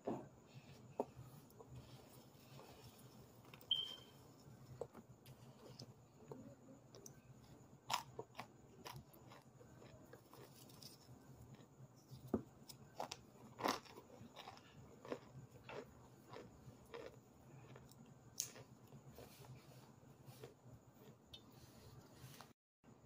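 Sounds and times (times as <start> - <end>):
crunchy chunks being chewed: 0.8 - 21.5.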